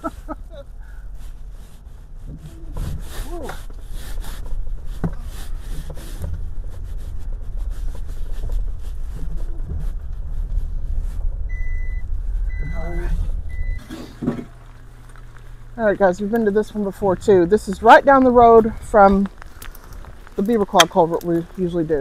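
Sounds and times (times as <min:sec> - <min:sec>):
engine and tyres rumbling: 0:00.0 - 0:22.0
gravel crunching under wheels: 0:00.0 - 0:22.0.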